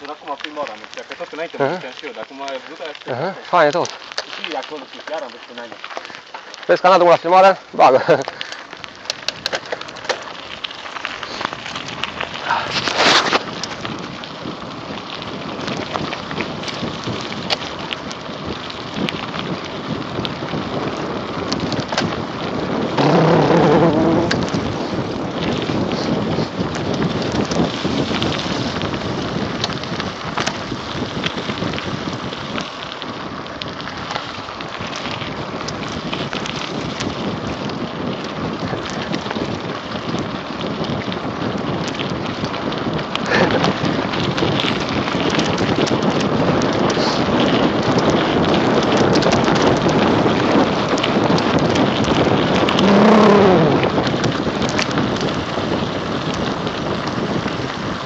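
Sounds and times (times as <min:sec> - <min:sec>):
bike tyres rumbling on gravel: 0:00.0 - 0:58.0
wind buffeting microphone: 0:00.0 - 0:58.0.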